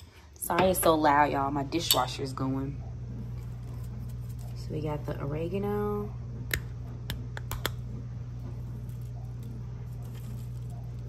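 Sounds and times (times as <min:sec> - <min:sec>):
dishwasher humming: 0:00.0 - 0:11.0.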